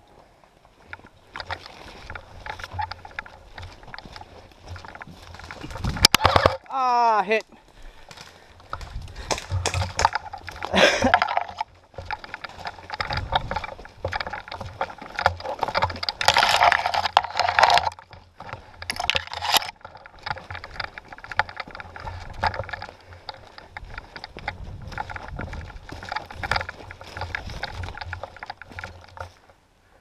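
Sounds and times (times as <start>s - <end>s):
twigs scraping: 0.0s - 30.0s
footsteps crunching dry leaves: 0.6s - 29.6s.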